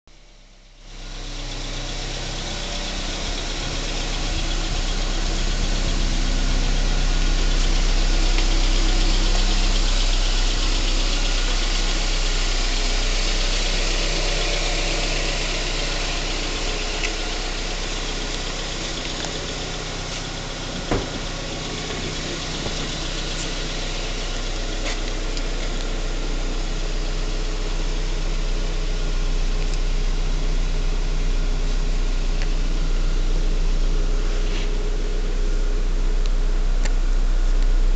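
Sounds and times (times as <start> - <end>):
car engine idling: 0.1 - 37.9.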